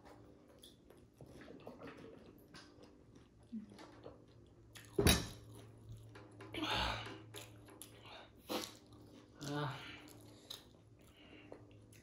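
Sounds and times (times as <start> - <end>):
chewing crisp food: 0.0 - 5.0, 7.2 - 12.0.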